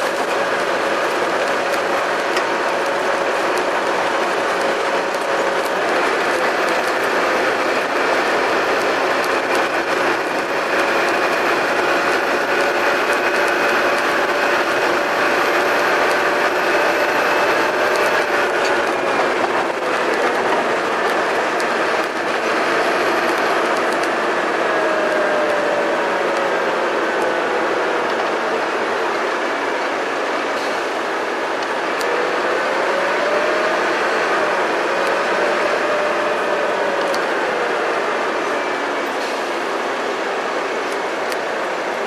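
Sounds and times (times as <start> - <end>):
bus engine whining: 0.0 - 42.0.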